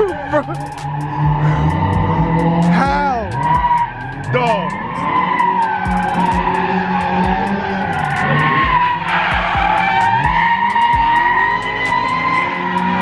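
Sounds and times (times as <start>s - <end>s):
car tyres squealing: 0.0s - 13.0s
music with booming bass: 0.0s - 13.0s.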